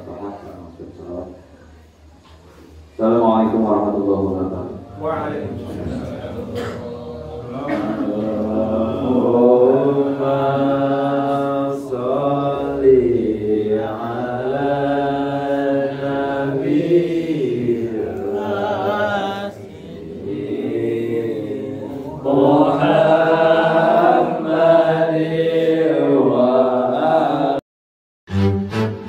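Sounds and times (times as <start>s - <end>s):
voices chanting a devotional song: 2.6s - 27.6s.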